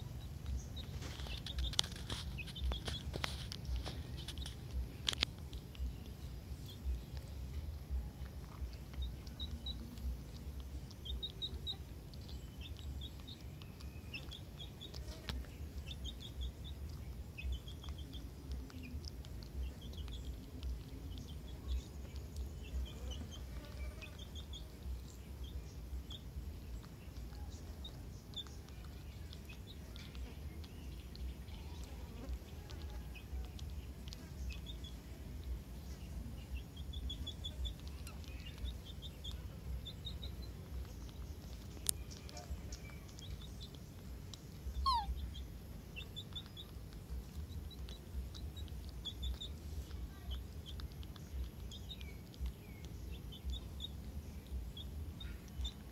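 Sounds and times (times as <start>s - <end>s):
small birds chirping: 0.0s - 55.9s
steady low rumble: 0.0s - 55.9s.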